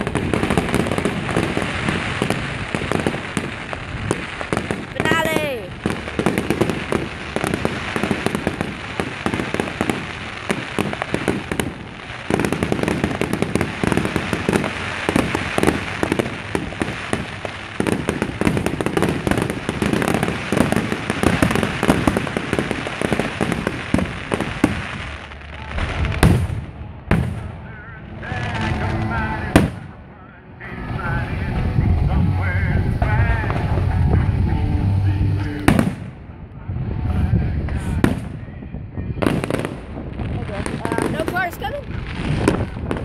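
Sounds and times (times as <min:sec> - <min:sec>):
fireworks booms: 0:00.0 - 0:30.1, 0:35.4 - 0:43.0
fireworks crackling: 0:00.0 - 0:43.0.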